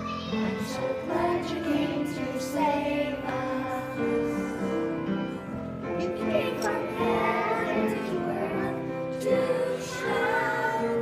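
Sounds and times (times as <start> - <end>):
children singing together: 0.0 - 11.0
instrumental accompaniment: 0.0 - 11.0.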